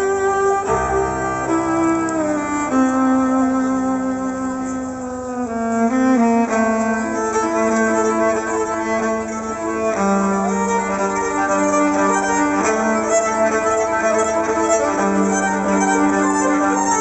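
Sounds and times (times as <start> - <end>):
sustained string accompaniment: 0.0 - 17.0
violin slow melody: 0.0 - 17.0.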